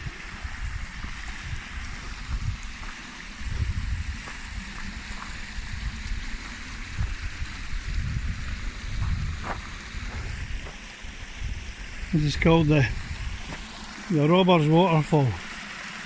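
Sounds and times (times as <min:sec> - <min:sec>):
wind rumbling on microphone: 0:00.0 - 0:13.6
stream and waterfall rushing: 0:00.0 - 0:16.0.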